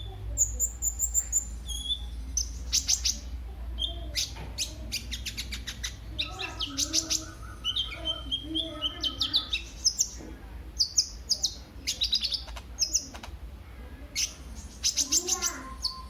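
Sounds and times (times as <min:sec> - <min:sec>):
sunbird chirping and trilling: 0:00.0 - 0:10.2, 0:10.8 - 0:13.1, 0:14.1 - 0:16.0.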